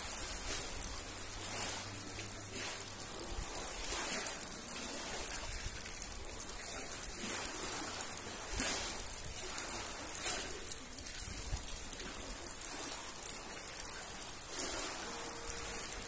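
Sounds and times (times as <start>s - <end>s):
light rain pattering: 0.0s - 16.0s
waves washing onto pebble shore: 0.0s - 16.0s.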